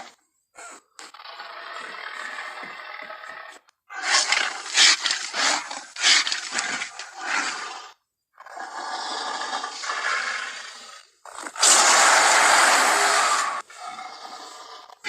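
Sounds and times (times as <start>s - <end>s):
creature growl: 0.0s - 15.0s
loud creature roar: 0.6s - 15.0s.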